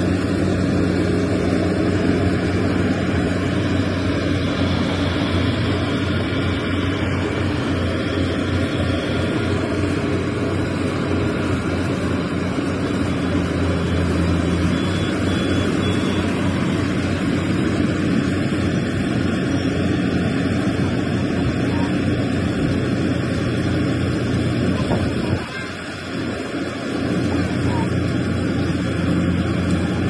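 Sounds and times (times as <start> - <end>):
combine harvester droning: 0.0 - 30.0.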